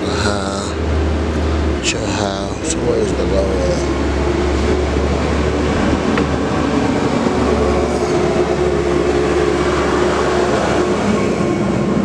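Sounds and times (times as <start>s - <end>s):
mechanical rumble: 0.0s - 12.0s.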